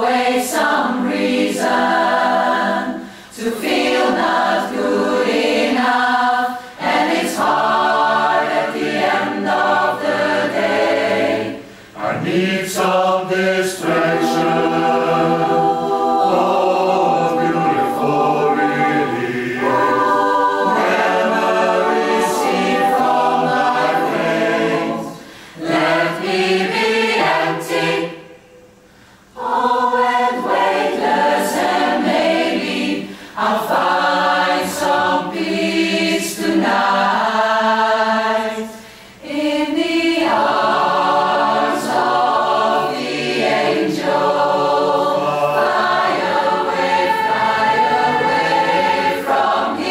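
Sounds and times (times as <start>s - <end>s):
mixed choir singing a cappella: 0.0s - 49.9s.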